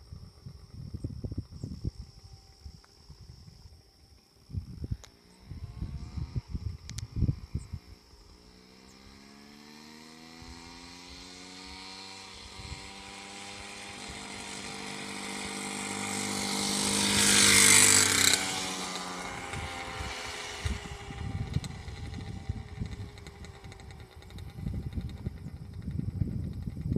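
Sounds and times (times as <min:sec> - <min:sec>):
mini bike engine passing by: 0:04.4 - 0:26.9.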